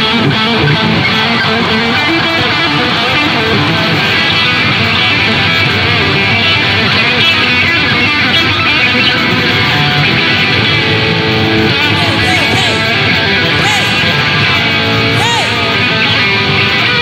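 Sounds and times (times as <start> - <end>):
live band with electric guitar: 0.0 - 17.0.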